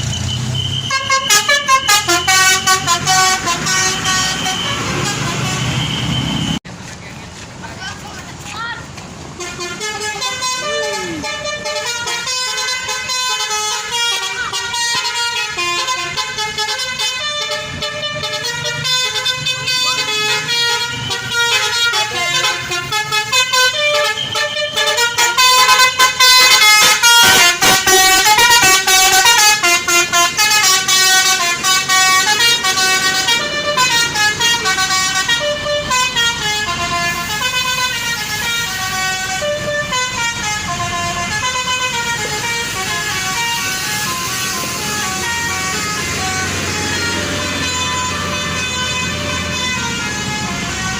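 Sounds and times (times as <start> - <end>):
bus musical horn playing melodies: 0.0 - 6.6, 9.3 - 50.9.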